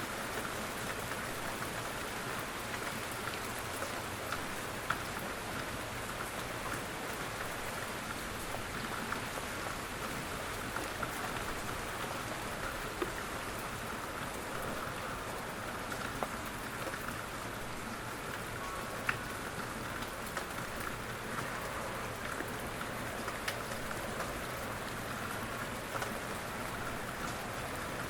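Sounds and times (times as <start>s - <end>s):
quiet rain falling: 0.0s - 28.0s
raindrops ticking: 0.2s - 28.0s.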